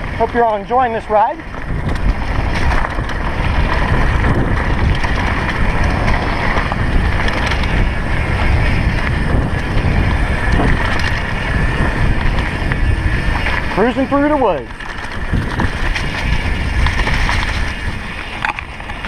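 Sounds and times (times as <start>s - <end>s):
tyres rumbling on dirt: 0.0s - 19.0s
wind rush on microphone: 0.0s - 19.0s.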